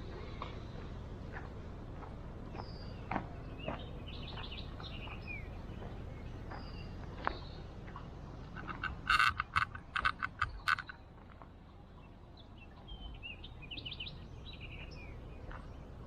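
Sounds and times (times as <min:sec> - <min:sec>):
birdsong: 0:00.0 - 0:16.0
outdoor background noise: 0:00.0 - 0:16.0.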